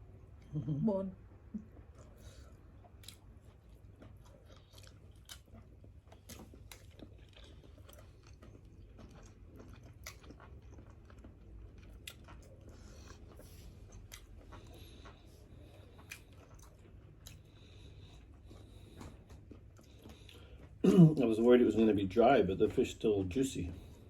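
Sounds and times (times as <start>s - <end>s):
close-up chewing: 1.6s - 24.0s.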